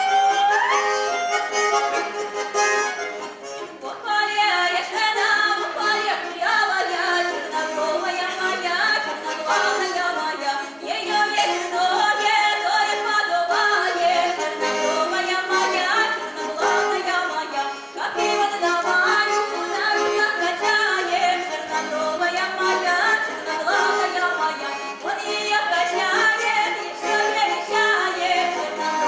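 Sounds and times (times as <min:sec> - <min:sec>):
accordion: 0:00.0 - 0:29.0
girl singing folk song: 0:03.8 - 0:29.0.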